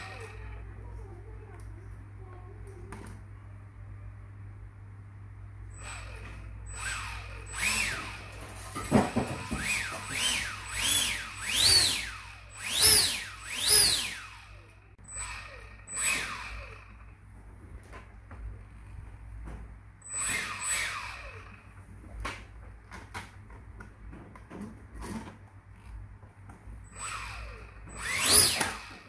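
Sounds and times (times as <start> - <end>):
electric ducted fan whining: 0.0 - 29.0.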